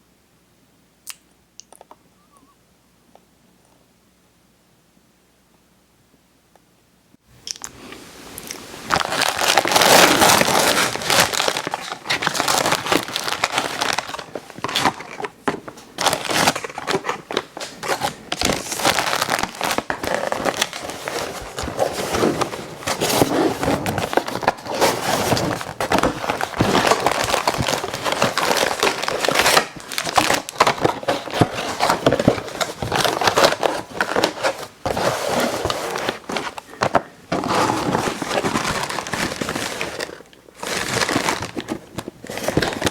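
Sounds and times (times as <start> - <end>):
plastic packaging crinkling: 8.4 - 42.9.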